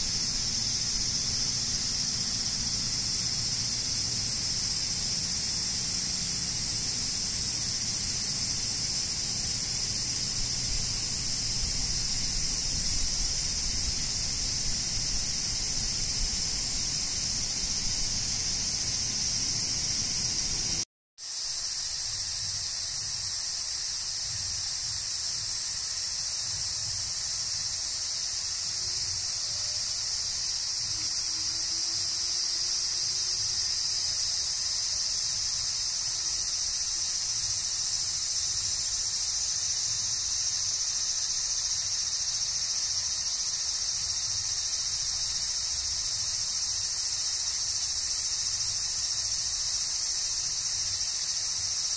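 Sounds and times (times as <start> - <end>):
insects shrilling: 0.0 - 51.9.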